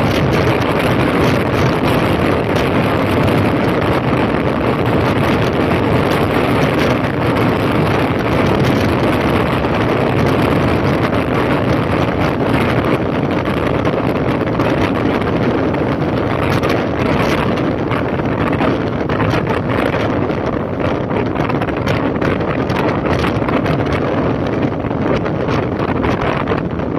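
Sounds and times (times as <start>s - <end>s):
motorcycle engine running: 0.0s - 26.9s
wind rushing over microphone: 0.0s - 26.9s.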